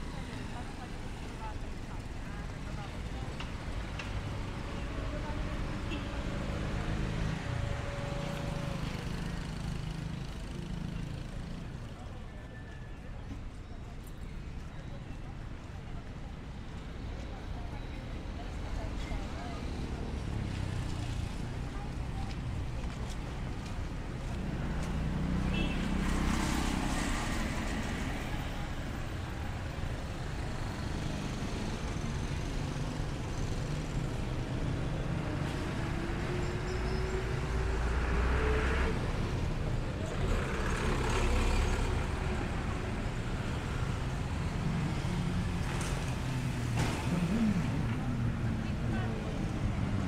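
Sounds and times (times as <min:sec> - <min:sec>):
traffic engine rumble: 0:00.0 - 0:50.0.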